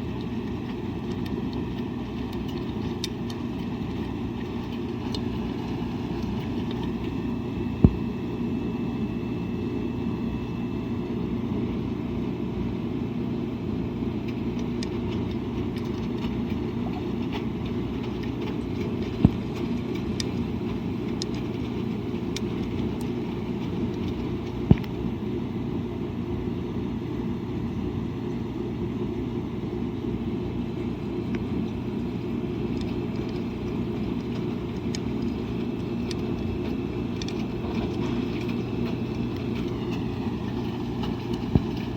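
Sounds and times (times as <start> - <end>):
washing machine rumbling: 0.0 - 41.9.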